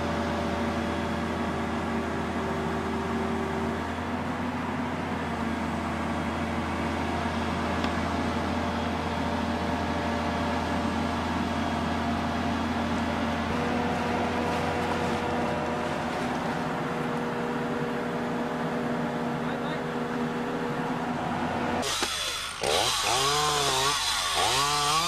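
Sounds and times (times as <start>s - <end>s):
excavator diesel engine running: 0.0s - 24.8s.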